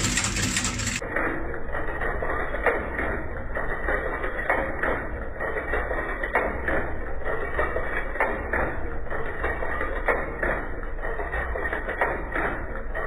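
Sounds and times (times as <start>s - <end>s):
machine clattering knocks: 0.0s - 13.0s
stitching machine motor hum: 0.0s - 13.0s.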